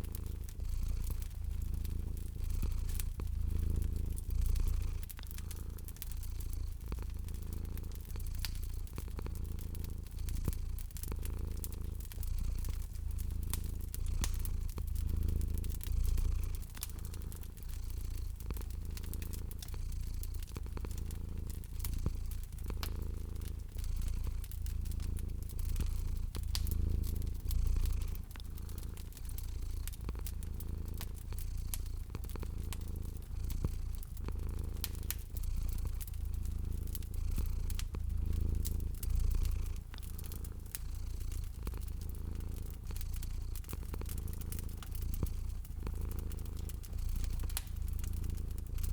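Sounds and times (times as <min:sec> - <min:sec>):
cat purring: 0:00.0 - 0:48.9
wood fire crackling: 0:00.0 - 0:48.9.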